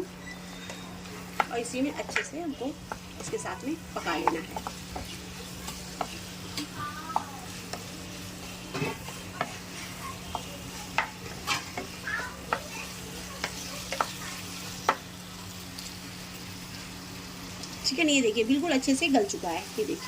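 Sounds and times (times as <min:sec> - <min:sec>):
filling sizzling in a pan: 0:00.0 - 0:20.0.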